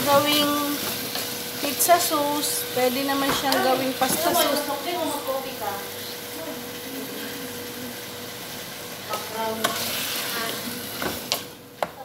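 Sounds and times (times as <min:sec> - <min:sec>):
tomatoes sizzling in a pot: 0:00.0 - 0:12.0.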